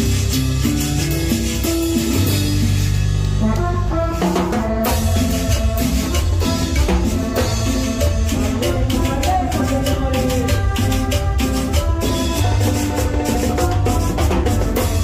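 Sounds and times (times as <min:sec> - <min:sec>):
drum kit and percussion beat: 0:00.0 - 0:15.0
live cumbia band music: 0:00.0 - 0:15.0.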